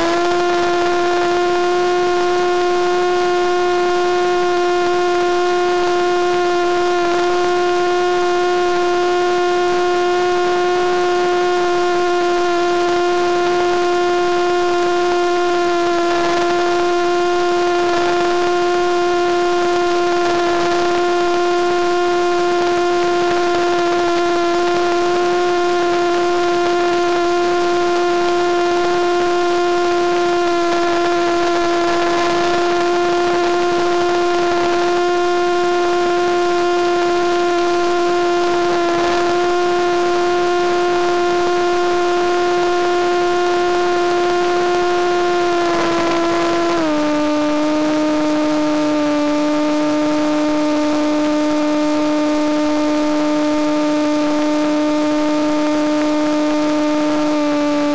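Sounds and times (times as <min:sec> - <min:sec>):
model plane motor whining: 0:00.0 - 0:57.9.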